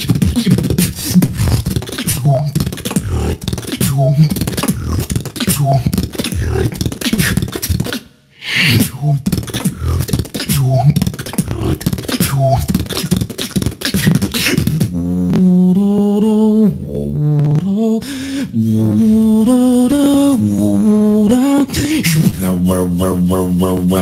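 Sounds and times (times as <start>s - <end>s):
beatboxing: 0.0s - 24.0s.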